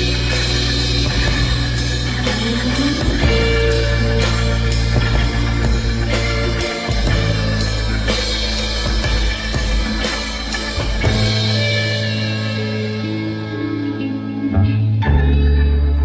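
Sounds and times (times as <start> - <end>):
steady drum beat: 0.0 - 12.9
rock music: 0.0 - 16.0.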